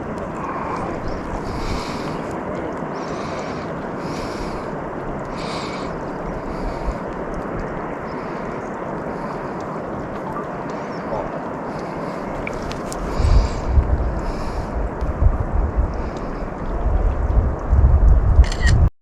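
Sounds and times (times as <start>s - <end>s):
rushing water: 0.0s - 18.9s
wind buffeting microphone: 0.0s - 18.9s.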